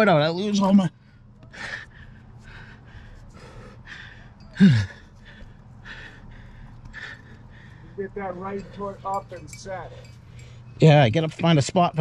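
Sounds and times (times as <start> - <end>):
person breathing hard: 1.0 - 10.8.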